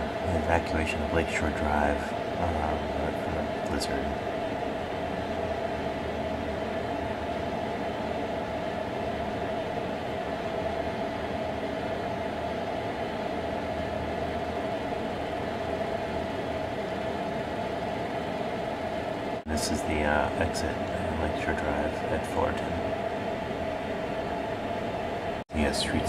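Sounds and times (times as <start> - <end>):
mechanical drone humming: 0.0 - 26.0.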